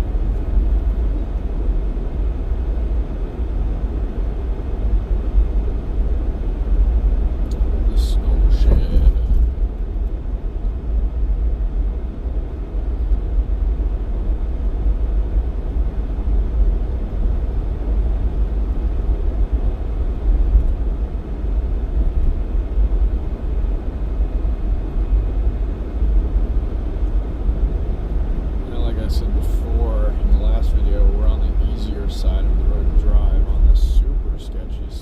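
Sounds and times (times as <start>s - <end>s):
vehicle engine and road rumble: 0.0s - 35.0s.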